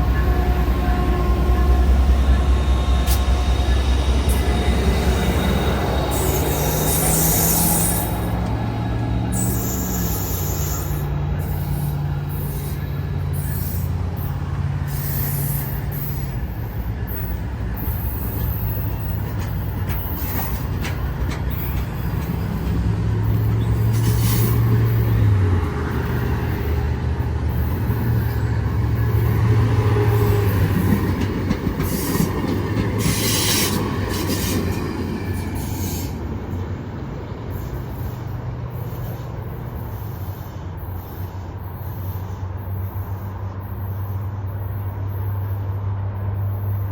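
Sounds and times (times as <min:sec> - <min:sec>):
rail noise rumbling: 0:00.0 - 0:46.9
train engine drone: 0:00.0 - 0:46.9.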